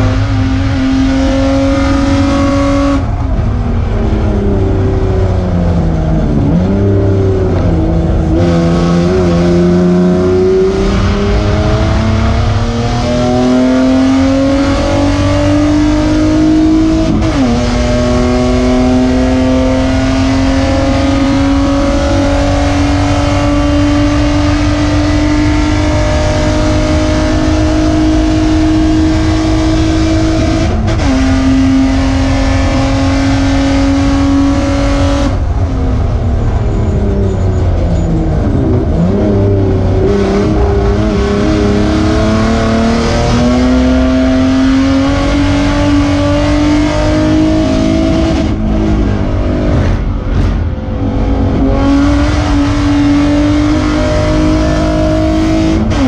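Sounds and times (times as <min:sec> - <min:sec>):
race car engine and exhaust: 0:00.0 - 0:56.0.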